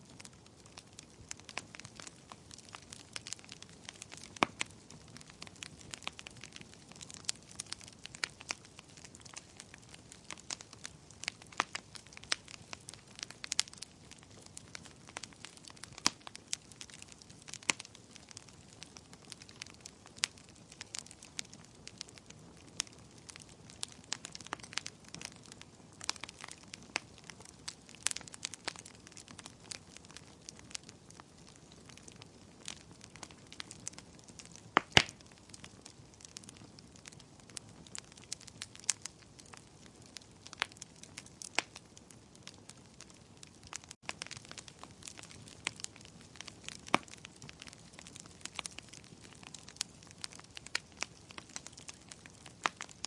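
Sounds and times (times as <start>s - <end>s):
bonfire crackling: 0.0s - 53.0s
soft steady hiss: 0.0s - 53.0s.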